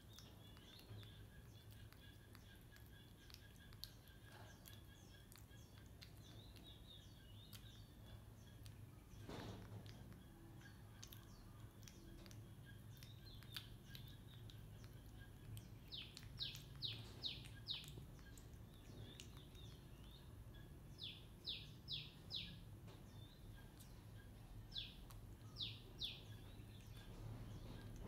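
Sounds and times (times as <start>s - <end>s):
low steady hum: 0.0s - 28.0s
small birds chirping: 0.0s - 28.0s.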